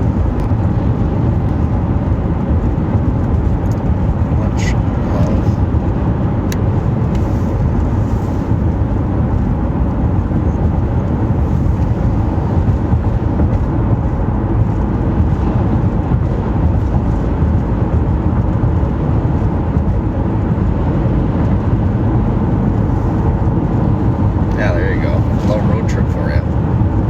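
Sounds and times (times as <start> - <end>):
car road rumble: 0.0 - 27.0.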